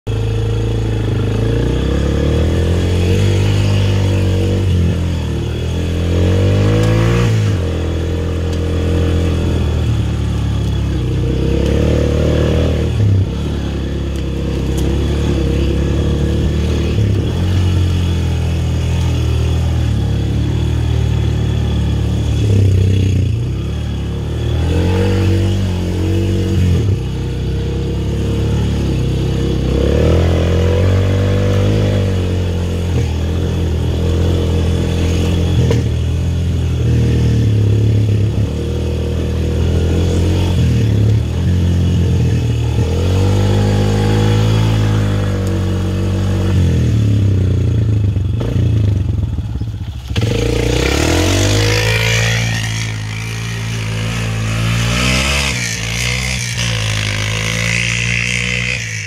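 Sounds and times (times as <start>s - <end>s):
atv engine revving: 0.1s - 59.0s.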